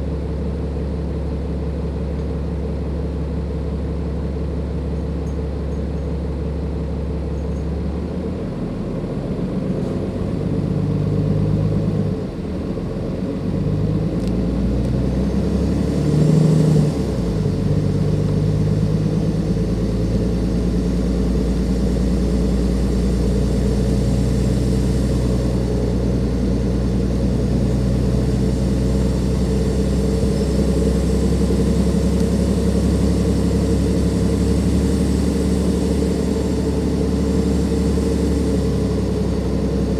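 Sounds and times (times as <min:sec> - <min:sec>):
bus diesel engine pulling away: 0:06.9 - 0:39.9.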